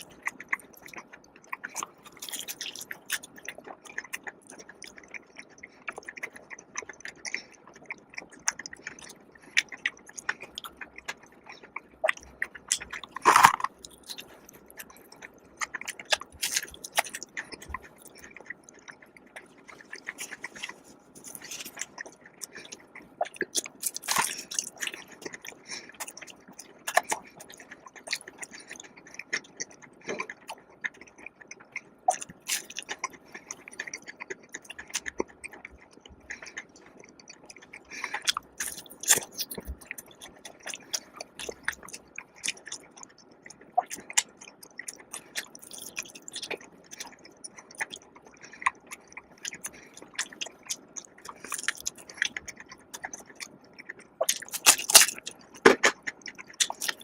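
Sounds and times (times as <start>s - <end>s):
chewing and biting food: 0.0s - 57.0s
wet mouth sounds: 0.0s - 57.0s.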